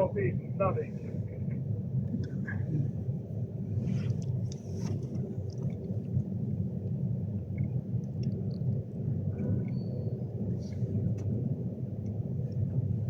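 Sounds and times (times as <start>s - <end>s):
train interior rumble: 0.0s - 13.0s.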